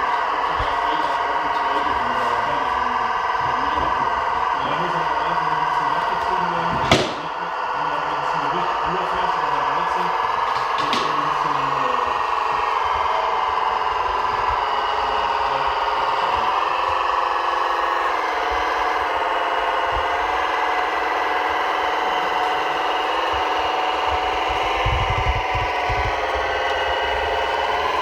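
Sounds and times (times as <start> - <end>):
model truck motors whining: 0.0 - 28.0.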